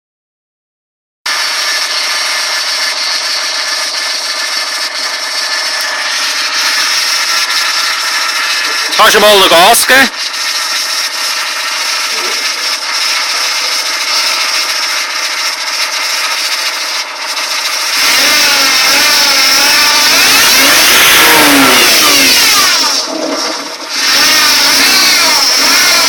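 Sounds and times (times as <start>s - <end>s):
car engine idling and revving: 1.3s - 26.0s.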